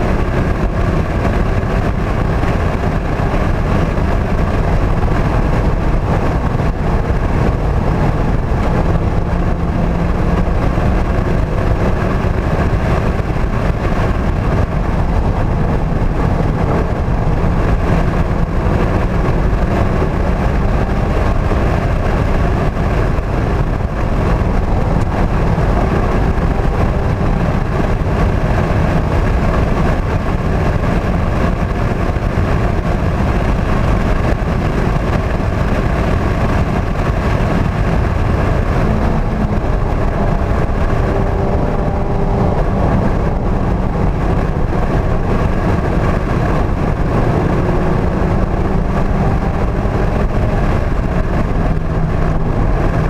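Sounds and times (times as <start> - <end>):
car engine running hard: 0.0 - 53.0
wind noise: 0.0 - 53.0.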